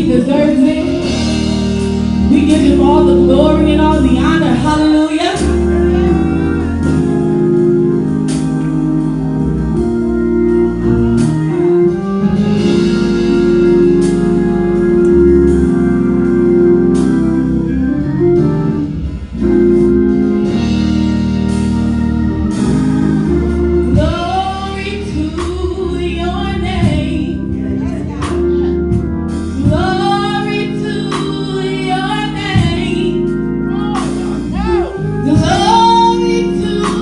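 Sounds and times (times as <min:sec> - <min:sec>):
bass line: 0:00.0 - 0:37.0
organ chords: 0:00.0 - 0:37.0.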